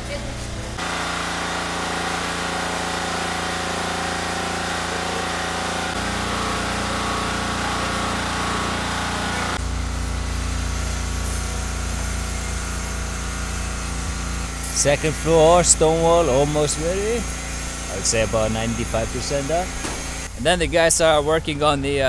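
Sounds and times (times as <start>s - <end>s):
steady mechanical drone: 0.0s - 22.0s.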